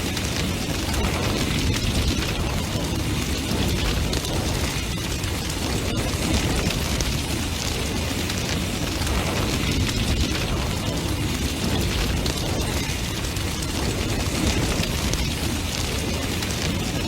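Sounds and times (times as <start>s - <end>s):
bonfire roaring and crackling: 0.0s - 17.0s.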